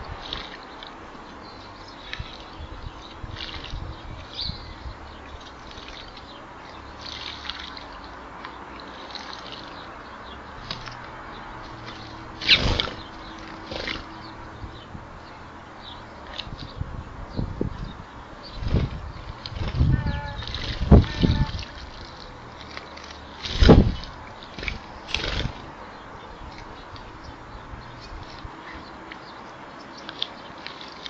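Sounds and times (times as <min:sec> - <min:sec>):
birds splashing in water: 0:00.0 - 0:16.8, 0:17.6 - 0:31.0
sparrows chirping: 0:00.0 - 0:31.0.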